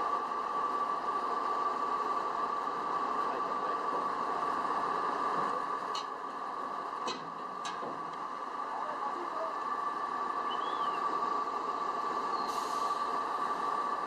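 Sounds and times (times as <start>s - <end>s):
wheel loader engines running: 0.0s - 14.0s.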